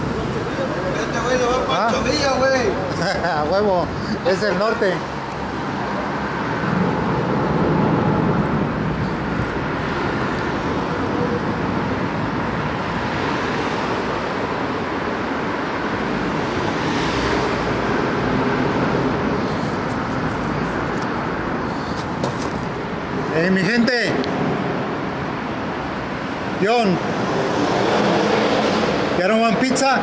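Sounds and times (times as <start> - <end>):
cars rumbling: 0.0 - 30.0
road noise: 0.0 - 30.0.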